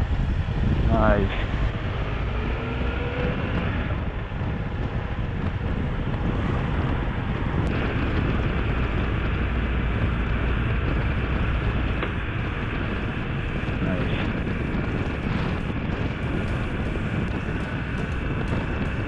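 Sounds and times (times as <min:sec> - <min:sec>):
motorcycle engine cruising: 0:00.0 - 0:19.0
wind noise on microphone: 0:00.0 - 0:19.0.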